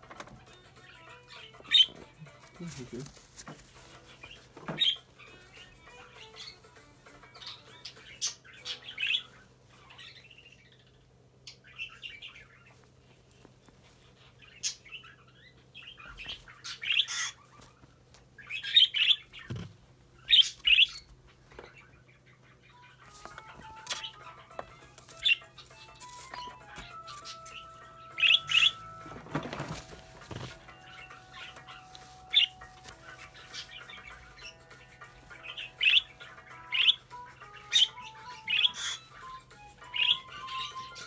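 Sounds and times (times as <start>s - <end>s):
parrot chirping: 0.4s - 2.5s, 3.9s - 12.8s, 14.1s - 17.8s, 18.4s - 19.5s, 20.2s - 21.1s, 21.7s - 29.3s, 30.0s - 41.0s.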